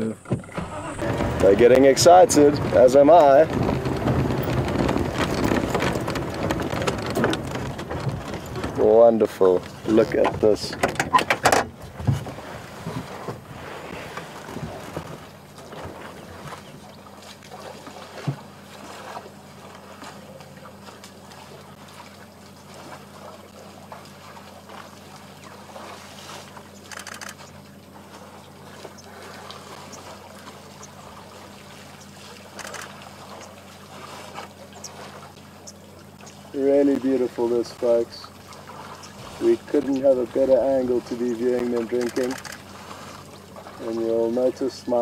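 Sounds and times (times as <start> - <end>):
steady low hum: 0.0 - 45.0
water trickling and splashing: 0.0 - 45.0.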